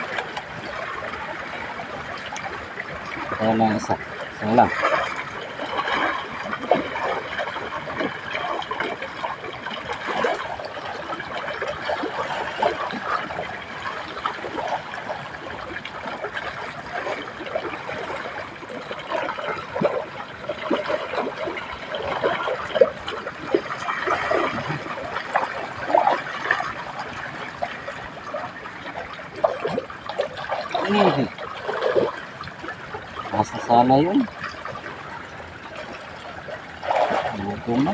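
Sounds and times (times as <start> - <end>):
small water splashes: 0.0 - 37.9
water trickling and gurgling: 0.0 - 37.9.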